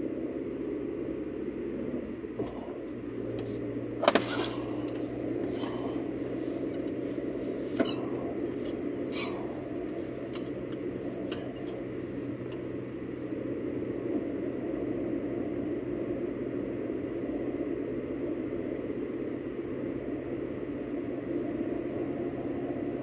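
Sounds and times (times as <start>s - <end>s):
low hum: 0.0s - 23.0s
road and engine noise: 0.0s - 23.0s.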